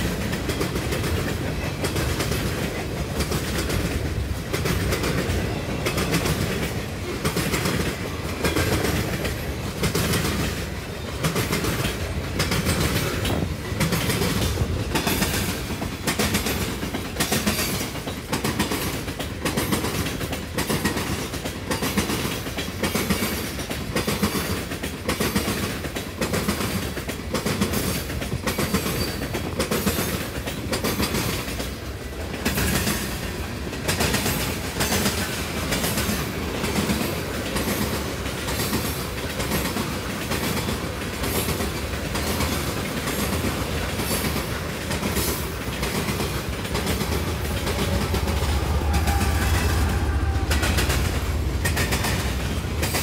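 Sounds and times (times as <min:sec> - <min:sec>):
freight train rumbling past: 0:00.0 - 0:53.0
steel wheels clacking: 0:00.0 - 0:53.0.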